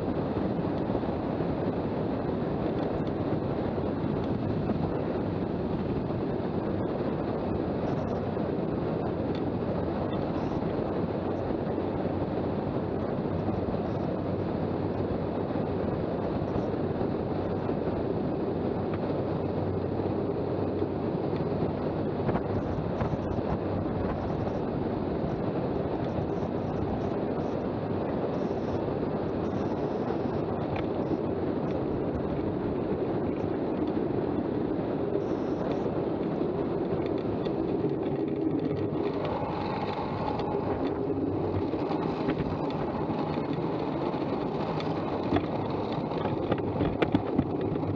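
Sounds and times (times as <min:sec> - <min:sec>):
wheels rolling fast on asphalt: 0:00.0 - 0:47.9
wind buffeting microphone: 0:00.0 - 0:47.9.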